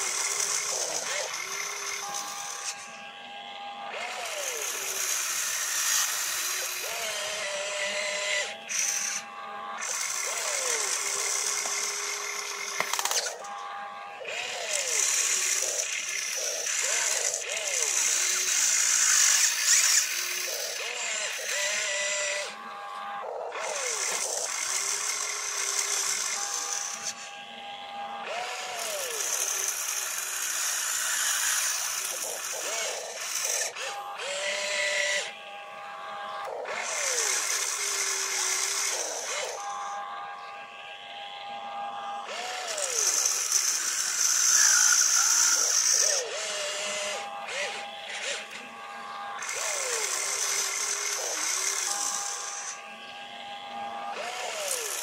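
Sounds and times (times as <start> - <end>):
electric motors whining: 0.0 - 55.0.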